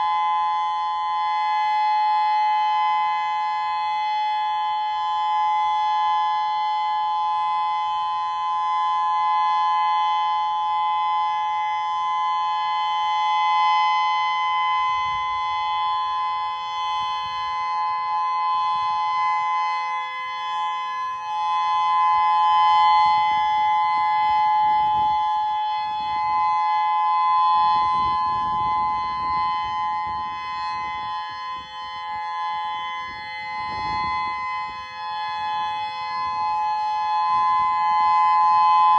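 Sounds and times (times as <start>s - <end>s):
tornado siren steady chord tone: 0.0s - 38.9s.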